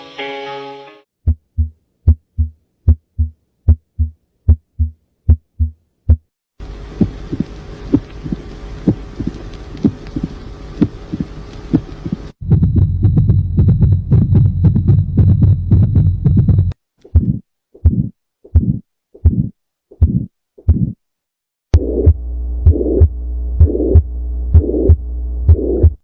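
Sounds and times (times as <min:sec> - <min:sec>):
heartbeat through stethoscope: 0:01.2 - 0:06.3, 0:07.0 - 0:21.0, 0:21.7 - 0:26.0.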